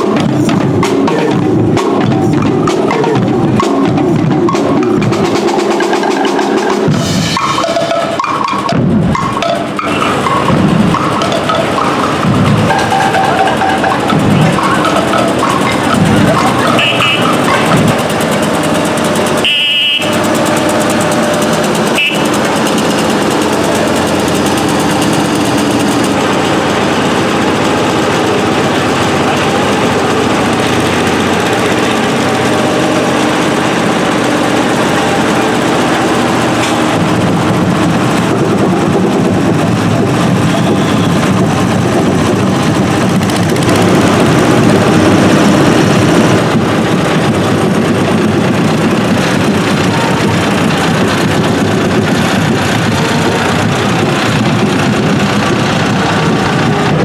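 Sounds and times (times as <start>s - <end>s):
deep heavy engine: 0.0s - 57.0s
road roller engines: 0.0s - 57.0s.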